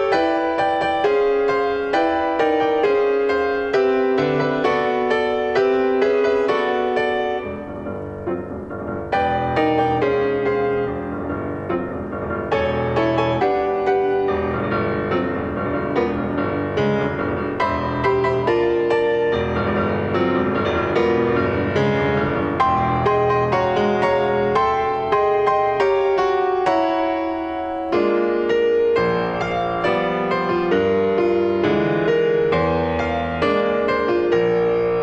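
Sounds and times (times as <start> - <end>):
solo piano chords: 0.0 - 35.0.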